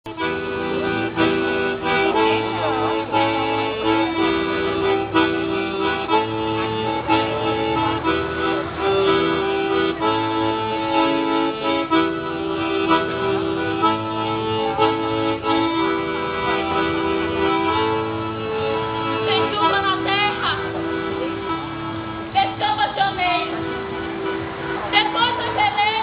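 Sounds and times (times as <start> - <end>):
accordion-led folk dance music: 0.0 - 26.0.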